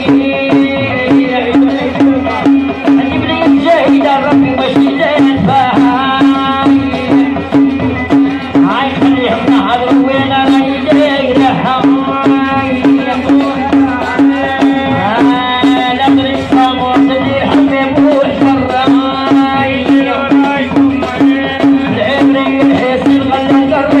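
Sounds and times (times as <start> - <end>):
woman singing through a microphone: 0.0 - 7.8, 8.4 - 24.0
drum beating quick rhythm: 0.0 - 24.0.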